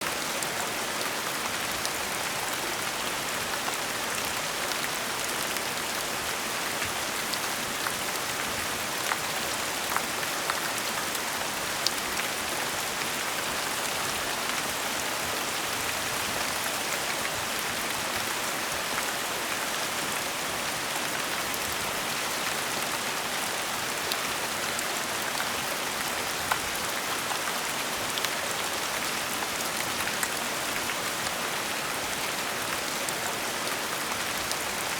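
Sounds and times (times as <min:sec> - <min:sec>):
gentle rain falling: 0:00.0 - 0:34.9.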